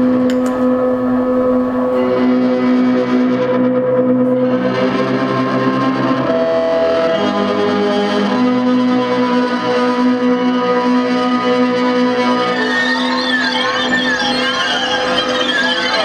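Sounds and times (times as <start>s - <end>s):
distorted violin drone: 0.8s - 16.0s.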